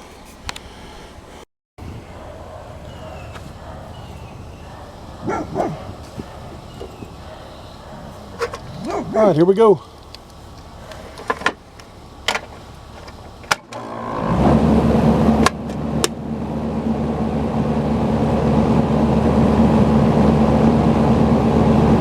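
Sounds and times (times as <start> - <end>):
condenser fan hum: 1.8 - 22.0.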